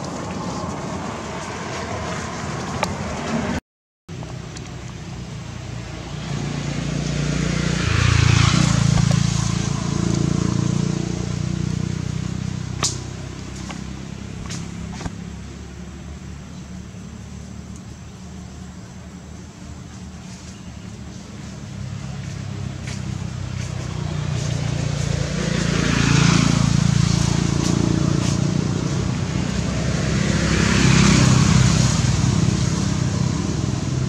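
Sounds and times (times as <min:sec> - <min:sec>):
vehicle engine passing by: 0:00.0 - 0:03.6, 0:05.1 - 0:17.7, 0:20.4 - 0:34.0.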